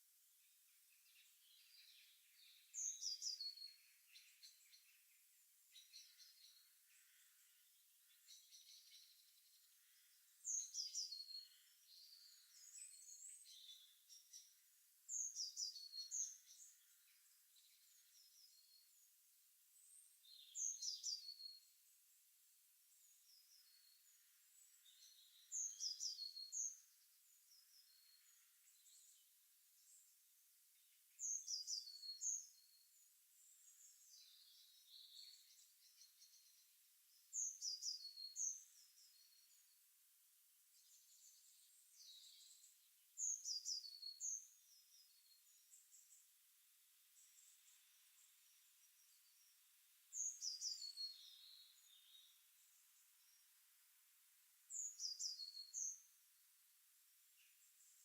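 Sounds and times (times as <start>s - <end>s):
soft bird chirping: 0.0s - 39.9s, 40.6s - 58.0s
songbird song phrase: 0.0s - 58.0s.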